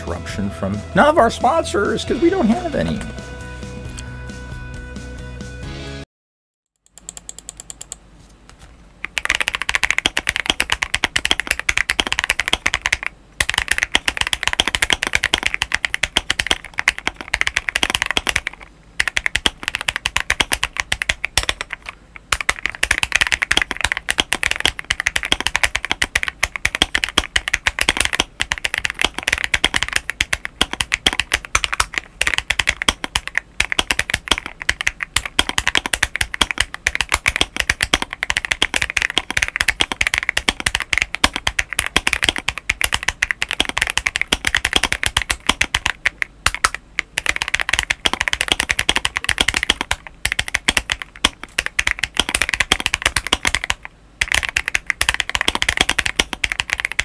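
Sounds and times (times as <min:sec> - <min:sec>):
mechanical keyboard typing: 0:06.8 - 0:08.0, 0:09.0 - 0:57.0.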